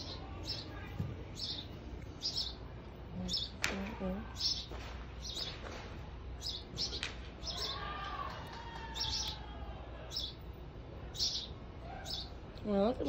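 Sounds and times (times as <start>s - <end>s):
bird chirping: 0.0s - 8.2s, 8.8s - 9.5s, 10.1s - 10.5s, 11.1s - 13.0s.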